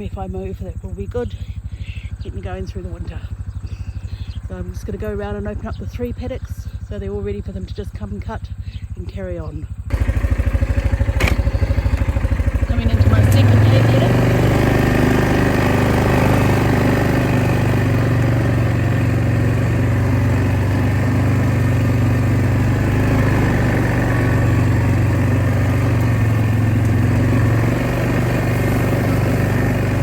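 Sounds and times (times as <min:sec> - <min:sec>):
farm vehicle engine running: 0:00.0 - 0:30.0.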